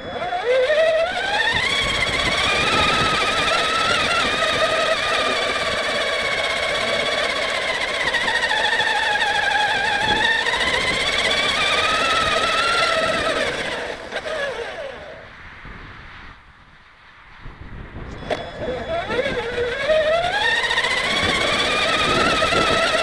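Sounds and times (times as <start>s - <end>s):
toy truck electric motor whining: 0.0s - 15.2s, 18.1s - 23.0s.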